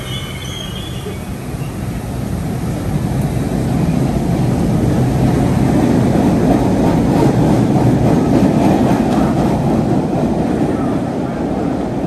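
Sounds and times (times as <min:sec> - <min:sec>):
subway train rumbling past: 0:00.0 - 0:12.0.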